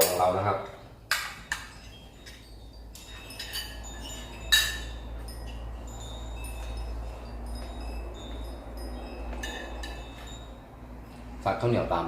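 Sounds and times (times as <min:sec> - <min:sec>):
spoon clinking on plates: 0:00.0 - 0:11.2.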